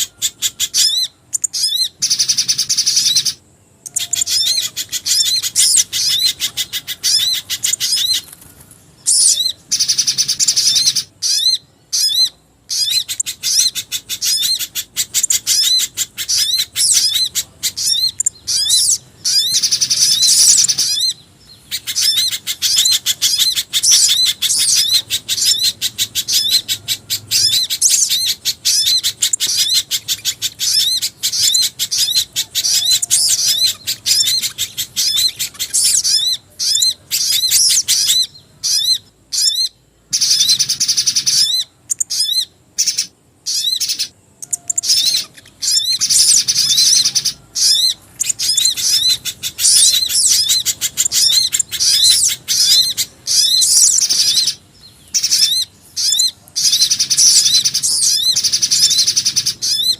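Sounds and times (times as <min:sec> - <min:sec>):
high-pitched bird chirps: 0:00.0 - 0:08.4, 0:09.0 - 0:59.9.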